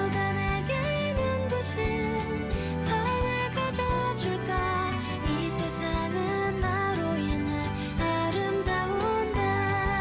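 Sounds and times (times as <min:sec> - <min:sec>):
light instrumental music: 0:00.0 - 0:10.0.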